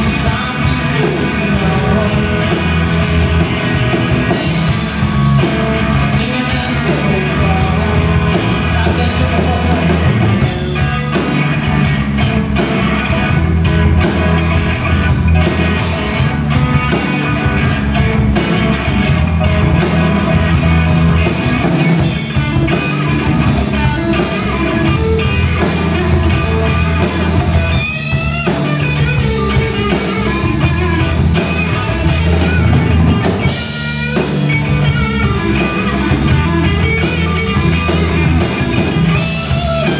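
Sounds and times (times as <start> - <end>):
drum kit: 0.0 - 39.9
electric bass: 0.0 - 39.9
electric guitar: 0.0 - 39.9
fast drum strokes: 0.0 - 39.9.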